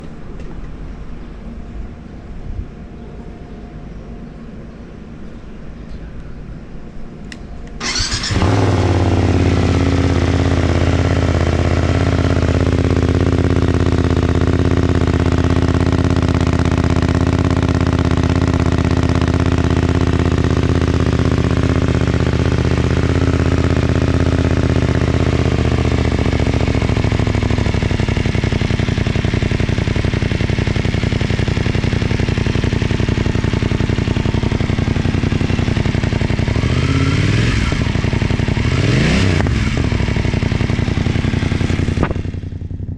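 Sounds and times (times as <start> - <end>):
motorcycle engine starting and idling: 7.1 - 42.9.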